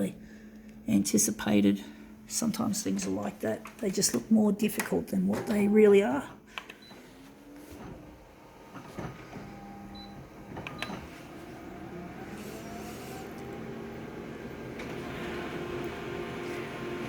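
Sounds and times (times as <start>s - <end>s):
photocopier mechanical hum: 0.0s - 17.0s.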